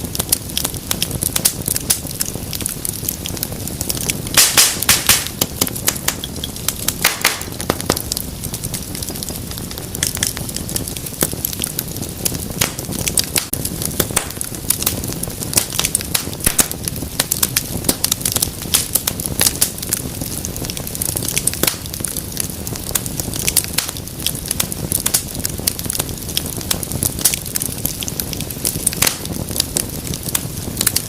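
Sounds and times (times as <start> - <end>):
fire pops and snaps: 0.0 - 31.0
low rush of flames: 0.0 - 31.0.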